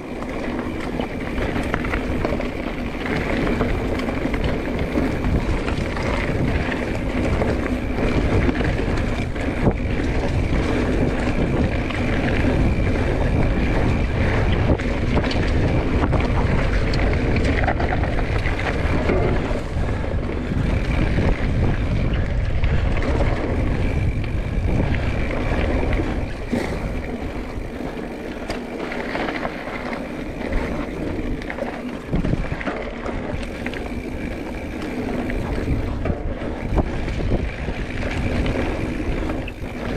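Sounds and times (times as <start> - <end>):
bike knocks and rattles: 0.0 - 39.9
wind buffeting microphone: 0.0 - 39.9.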